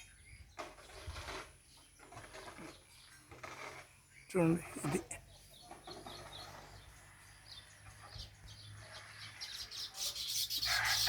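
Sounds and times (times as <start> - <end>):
weaver birds chirping: 0.0 - 11.0.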